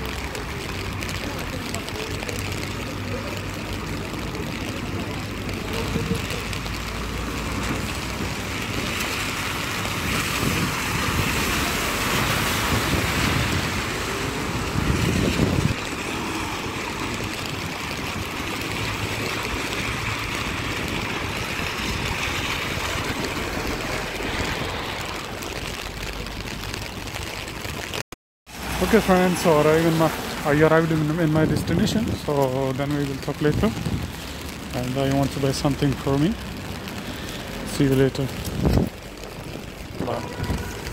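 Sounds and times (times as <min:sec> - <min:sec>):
car tyres on wet street: 0:00.0 - 0:40.9
rain hiss: 0:00.0 - 0:40.9.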